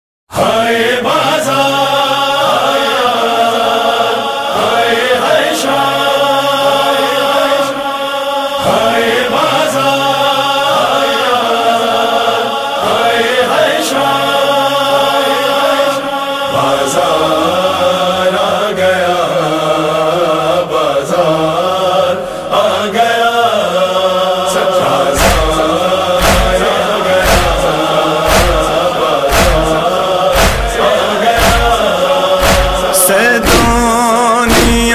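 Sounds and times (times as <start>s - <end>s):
voices chanting wordless melody: 0.3s - 34.9s.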